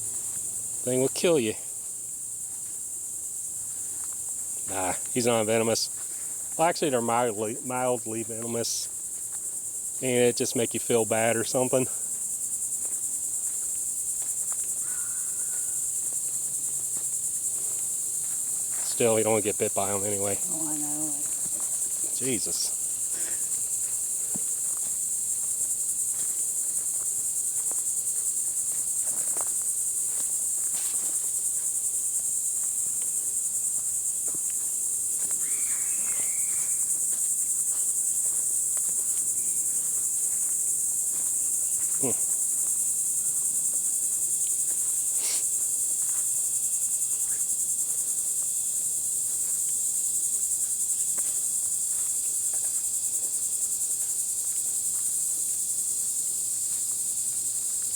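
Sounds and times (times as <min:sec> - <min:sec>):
insects droning: 0:00.0 - 0:57.9.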